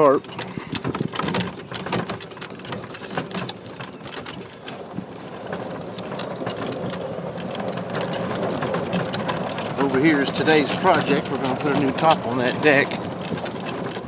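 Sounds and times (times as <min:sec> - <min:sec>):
cart body rattling and clicking: 0:00.0 - 0:14.0
golf cart motor: 0:00.0 - 0:14.0.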